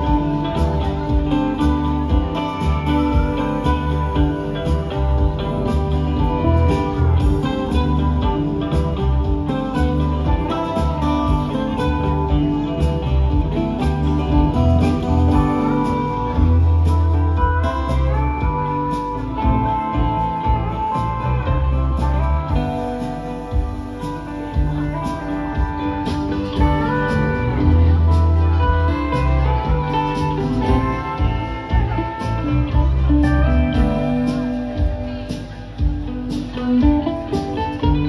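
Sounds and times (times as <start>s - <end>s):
bass: 0.0s - 38.0s
drums: 0.0s - 38.0s
electric and acoustic guitars: 0.0s - 38.0s
mandolin: 0.0s - 38.0s
pedal steel guitar: 0.0s - 38.0s.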